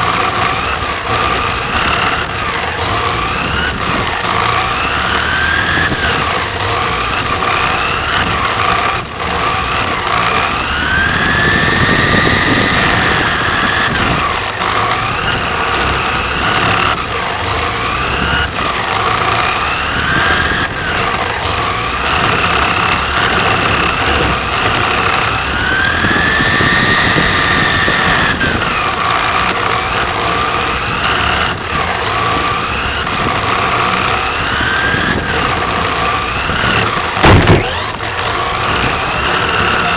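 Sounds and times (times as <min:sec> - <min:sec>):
electric rc car motor whine: 0:00.0 - 0:39.9
tyre and chassis noise: 0:00.0 - 0:39.9.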